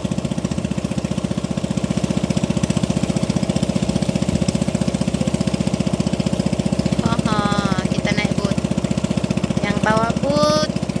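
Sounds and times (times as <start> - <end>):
small boat engine thumping: 0.0 - 11.0.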